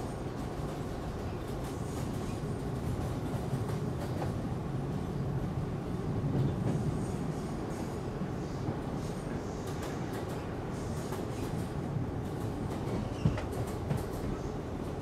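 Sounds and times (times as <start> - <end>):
subway car rumbling on track: 0.0 - 15.0.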